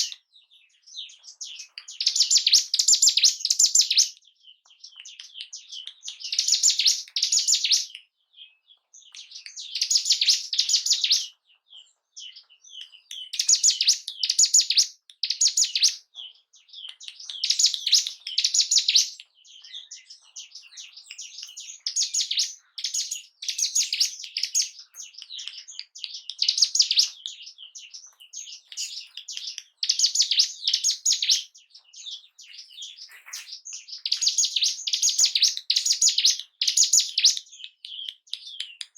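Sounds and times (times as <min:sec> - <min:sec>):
bird singing high-pitched song: 0:00.0 - 0:38.9
soft bird chirps: 0:00.0 - 0:38.9.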